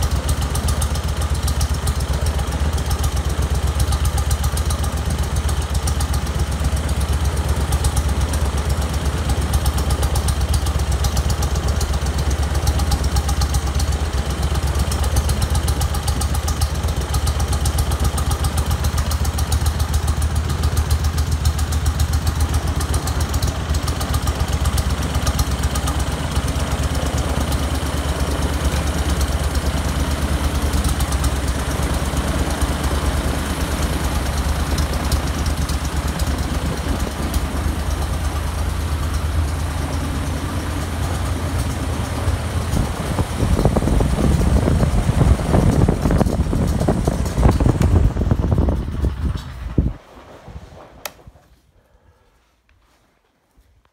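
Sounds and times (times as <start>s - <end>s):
propeller engine running: 0.0s - 50.0s.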